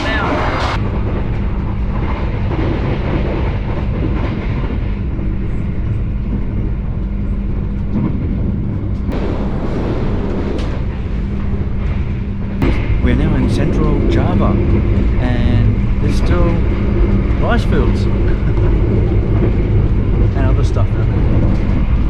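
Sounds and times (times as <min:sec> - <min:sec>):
low steady hum: 0:00.0 - 0:22.0
train wheels rumbling on rails: 0:00.0 - 0:22.0.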